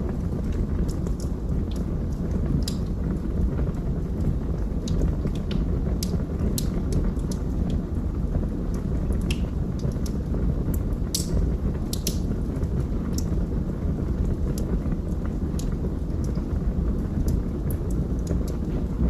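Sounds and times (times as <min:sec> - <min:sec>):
fire crackles and pops: 0:00.0 - 0:19.0
fire flames rumbling: 0:00.0 - 0:19.0.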